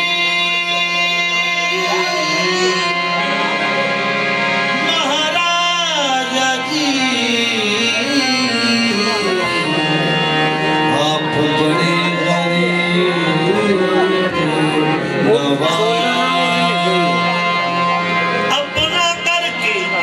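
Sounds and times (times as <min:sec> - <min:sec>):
man singing long sliding phrases: 0:00.0 - 0:03.5, 0:04.7 - 0:20.0
held accompaniment tones: 0:00.0 - 0:20.0.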